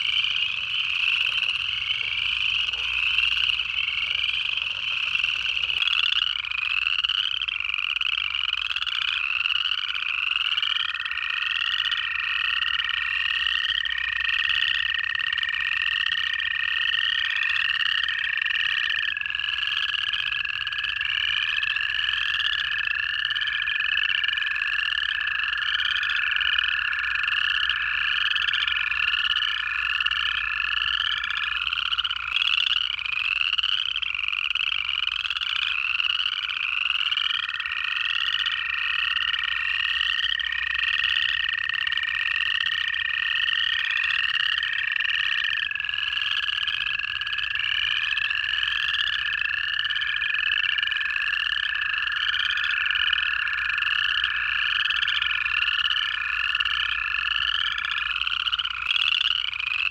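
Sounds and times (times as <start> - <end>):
chorus frogs trilling: 0.0 - 59.9
toads trilling: 0.0 - 59.9.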